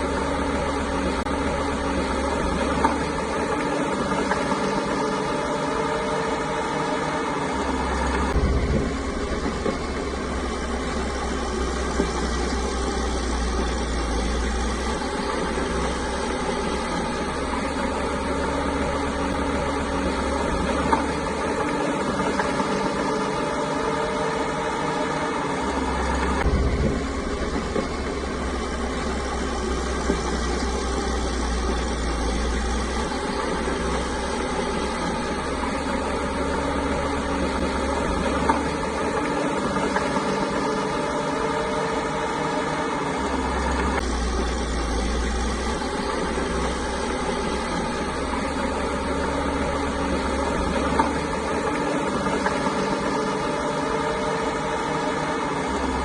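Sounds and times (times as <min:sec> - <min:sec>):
bulldozer diesel engine rumbling: 0:00.0 - 0:56.0.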